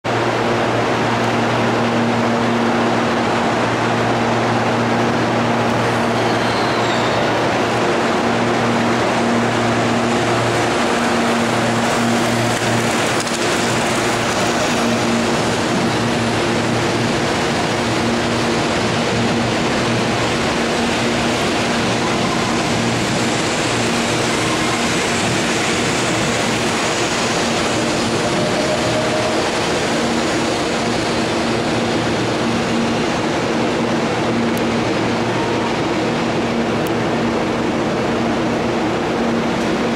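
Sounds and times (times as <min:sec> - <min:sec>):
train running noise: 0:00.0 - 0:39.9.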